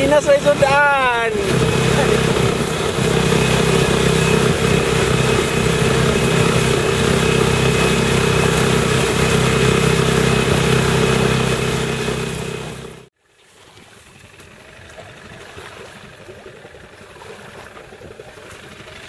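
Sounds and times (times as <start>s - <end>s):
outboard motor running: 0.0s - 19.0s
wind: 0.0s - 19.0s.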